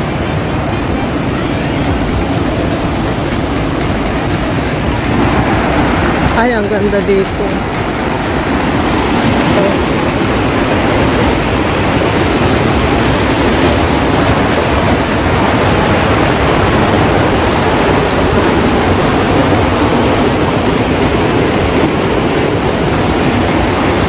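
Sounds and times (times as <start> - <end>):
water rushing through flume: 0.0 - 24.0.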